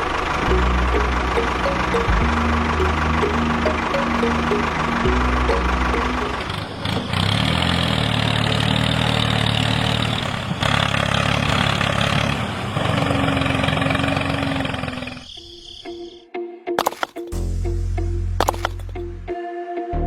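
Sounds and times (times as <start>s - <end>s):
small engine running: 0.0s - 15.4s, 16.8s - 17.2s, 18.4s - 19.0s.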